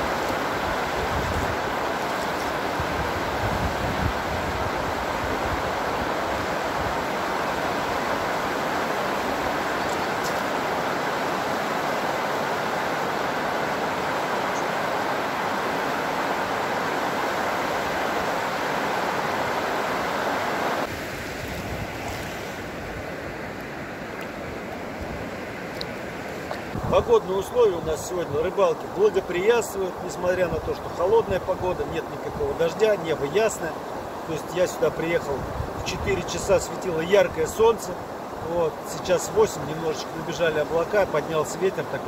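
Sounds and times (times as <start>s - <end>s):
water rushing over weir: 0.0s - 42.0s.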